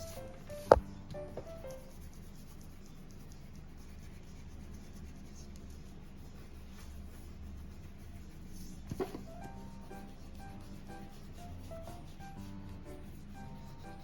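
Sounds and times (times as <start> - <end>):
felt-tip pen scratching on paper: 0.0 - 14.0
low steady hum: 0.0 - 14.0.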